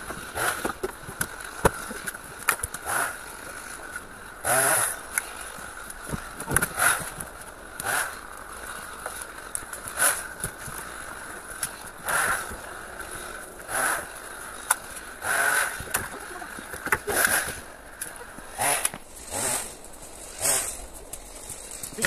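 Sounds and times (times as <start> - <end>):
wooden poles rustling and scraping: 0.0 - 22.0.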